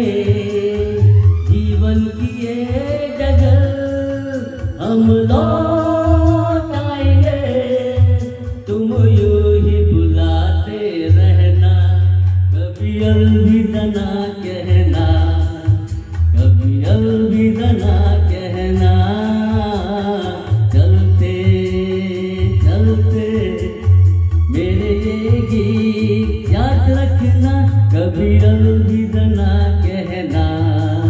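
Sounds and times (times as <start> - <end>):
man singing into a microphone: 0.0 - 31.0.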